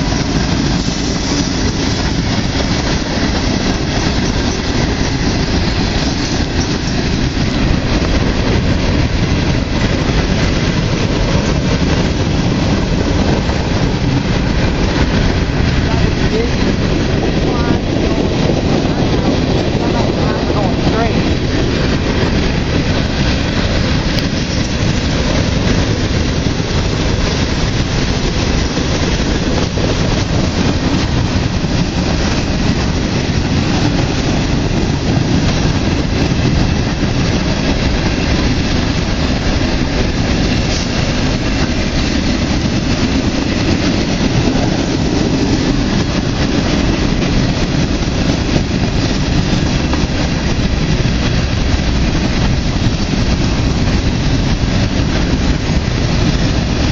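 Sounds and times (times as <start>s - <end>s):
freight train wheels rumbling on rails: 0.0s - 56.9s.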